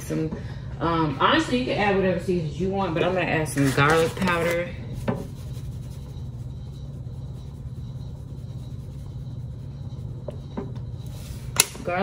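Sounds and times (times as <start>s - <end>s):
low kitchen hum: 0.0s - 12.0s.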